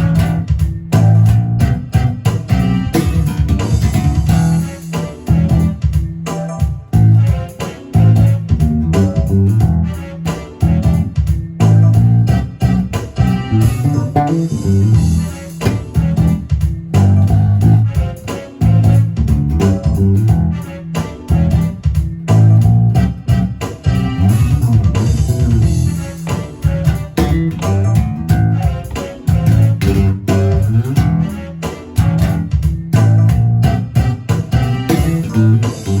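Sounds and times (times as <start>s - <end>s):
electric bass guitar playing: 0.0s - 36.0s.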